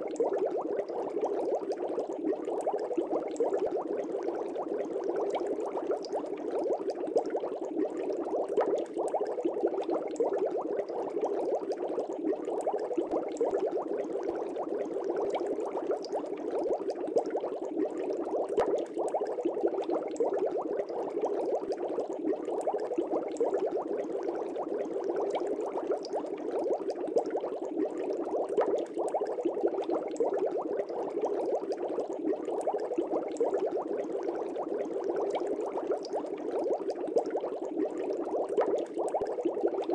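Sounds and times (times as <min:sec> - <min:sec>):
air bubbles in fish tank: 0:00.0 - 0:39.9.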